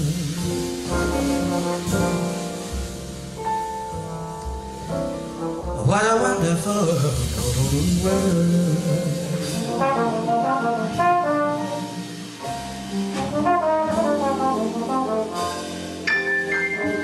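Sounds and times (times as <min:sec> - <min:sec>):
piano: 0:00.0 - 0:17.0
trombone playing jazz melody: 0:00.0 - 0:17.0.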